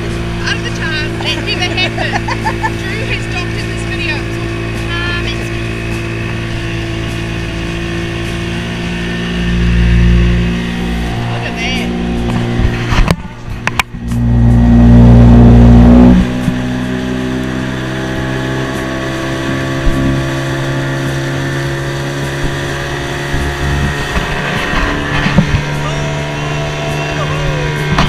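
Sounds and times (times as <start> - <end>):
outboard motor running: 0.0 - 28.0
water noise: 0.0 - 28.0.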